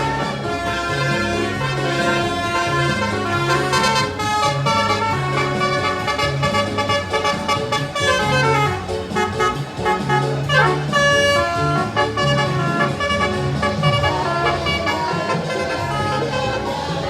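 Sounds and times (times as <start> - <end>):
musical bus horn playing a tune: 0.0 - 17.0.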